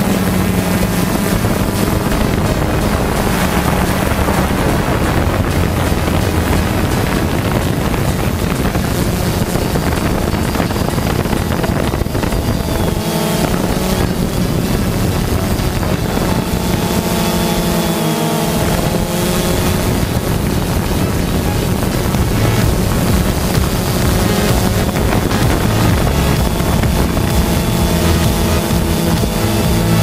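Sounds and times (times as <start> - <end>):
drone motors and propellers: 0.0 - 30.0
wavering whining tones: 0.0 - 30.0
wind noise on microphone: 0.0 - 30.0.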